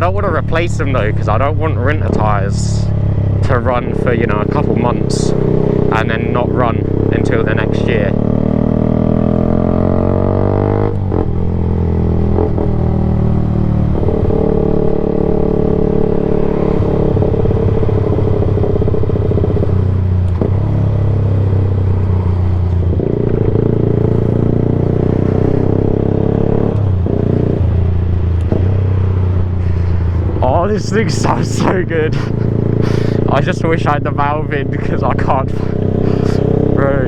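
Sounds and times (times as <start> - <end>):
loud motorcycle engine: 0.0 - 37.0.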